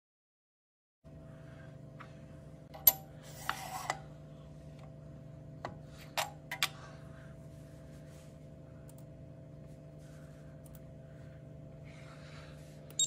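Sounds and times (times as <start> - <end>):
steady low hum: 1.1 - 13.0.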